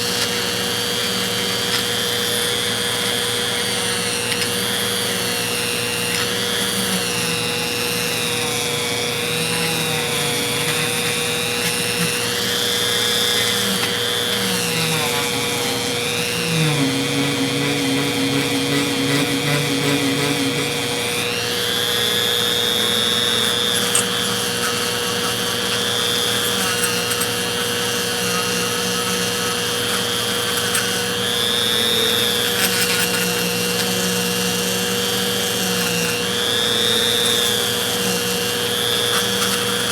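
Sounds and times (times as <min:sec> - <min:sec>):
small power tool grinding metal: 0:00.0 - 0:39.9.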